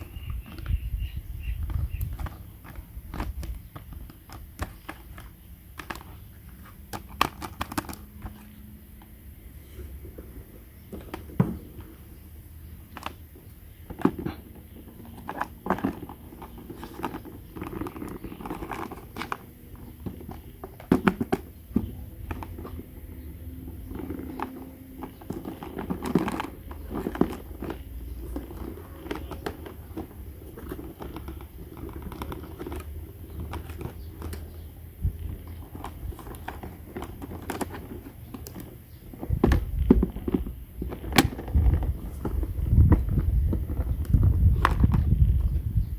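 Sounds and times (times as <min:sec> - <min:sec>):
crinkling: 0:00.0 - 0:45.9.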